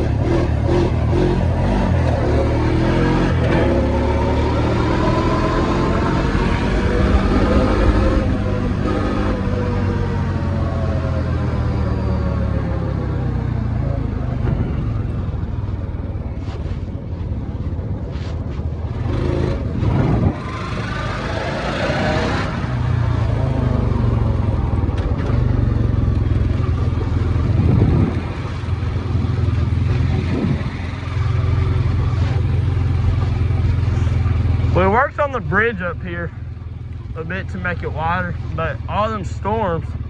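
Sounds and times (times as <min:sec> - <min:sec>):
atv engine revving: 0:00.0 - 0:15.6, 0:18.9 - 0:40.0.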